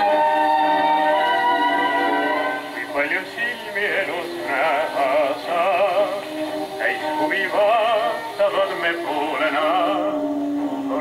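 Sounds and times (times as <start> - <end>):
old record of vibrato singing: 0.0 - 11.0.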